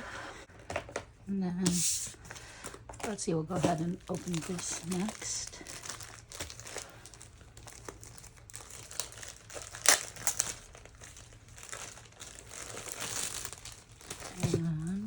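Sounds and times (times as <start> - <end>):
packaging crinkling and rustling: 0.4 - 15.0.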